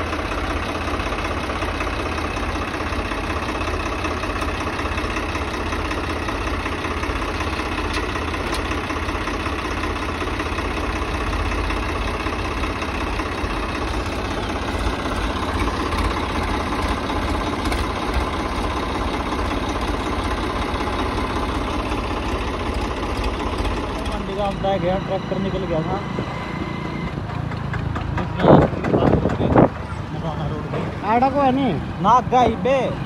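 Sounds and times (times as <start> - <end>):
tractor diesel engine idling: 0.0 - 33.0.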